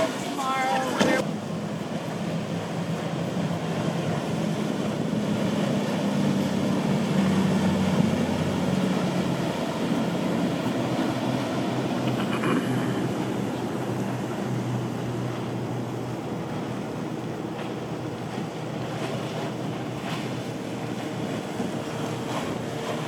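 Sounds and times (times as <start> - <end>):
boat engine drone: 0.0 - 23.0.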